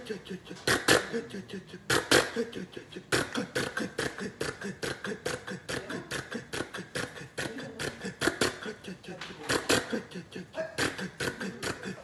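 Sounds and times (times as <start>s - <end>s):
man imitating tractor engine: 0.0s - 12.0s.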